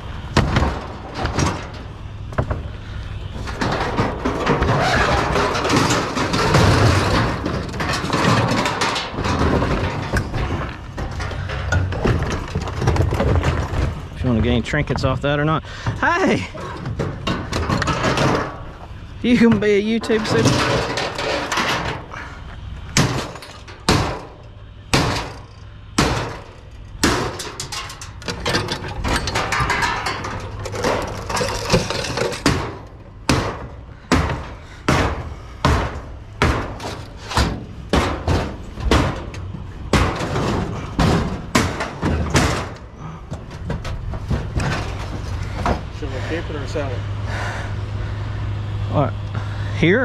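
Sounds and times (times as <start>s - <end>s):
hammer striking scrap metal: 0.0s - 46.0s.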